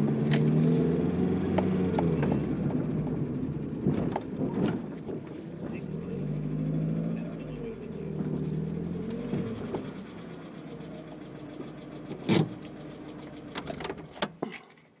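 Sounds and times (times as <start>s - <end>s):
car engine running: 0.0s - 14.5s.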